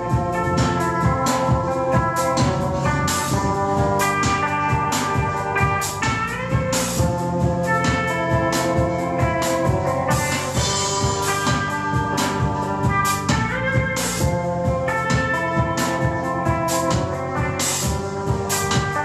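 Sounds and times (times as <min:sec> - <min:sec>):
drum kit beat: 0:00.0 - 0:19.0
electric guitar: 0:00.0 - 0:19.0
synthesizer notes: 0:00.0 - 0:19.0.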